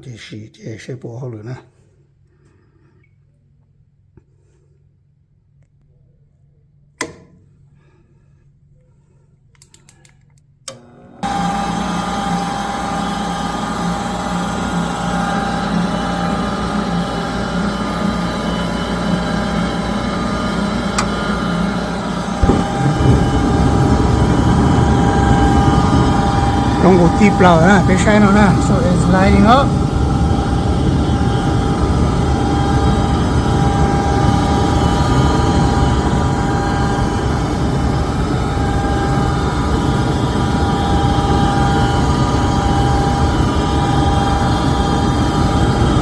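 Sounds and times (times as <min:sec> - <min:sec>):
furnace fan motor humming: 0:01.8 - 0:46.0.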